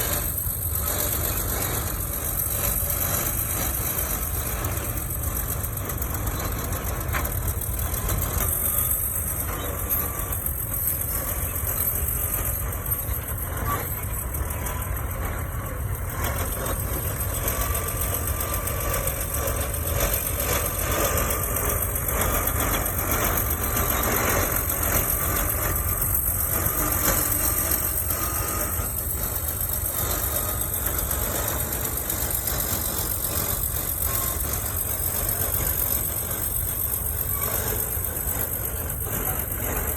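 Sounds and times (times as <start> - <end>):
bulldozer diesel engine rumbling: 0.0 - 39.9
faint wavering whine: 0.0 - 39.9.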